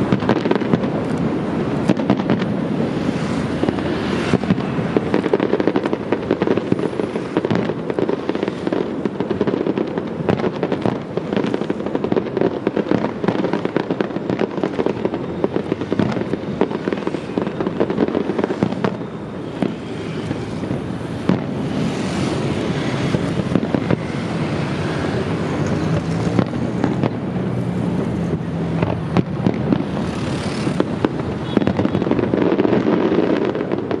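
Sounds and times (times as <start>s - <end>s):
fireworks bangs and crackling: 0.0s - 34.0s
high hissing crackle: 0.0s - 34.0s.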